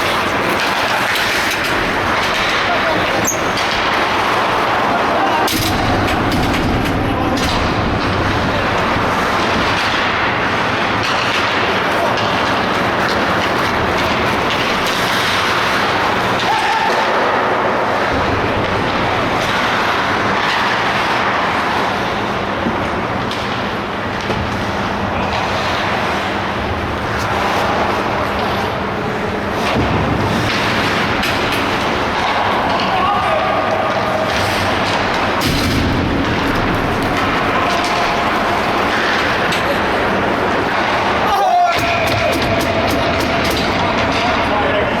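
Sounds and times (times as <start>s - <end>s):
ice rink noise: 0.0s - 45.0s.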